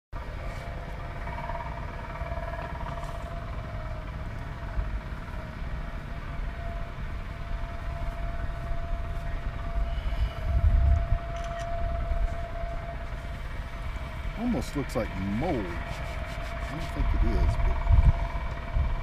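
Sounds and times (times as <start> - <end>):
faint hum: 0.2 - 19.0
wind rumbling on microphone: 0.2 - 19.0.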